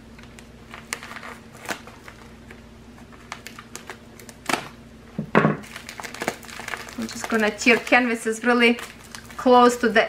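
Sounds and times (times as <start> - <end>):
packaging crinkling: 0.1 - 4.8, 5.6 - 10.0.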